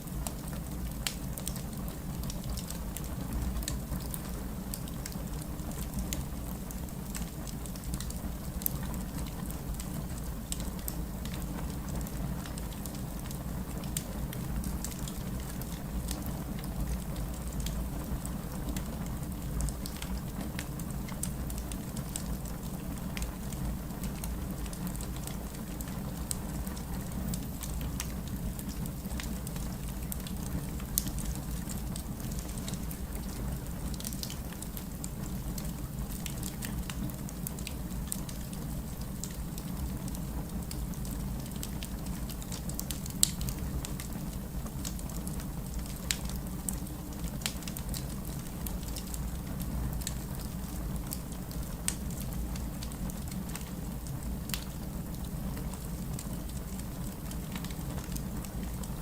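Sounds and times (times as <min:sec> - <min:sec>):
campfire wood crackling: 0:00.0 - 0:59.0
low rumble of fire: 0:00.0 - 0:59.0.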